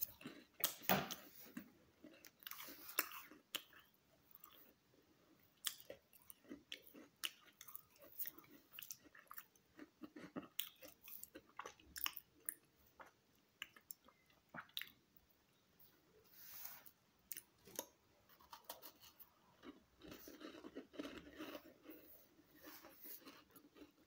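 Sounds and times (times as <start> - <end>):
person chewing crunchy cookie: 0.0 - 15.0, 16.5 - 24.0.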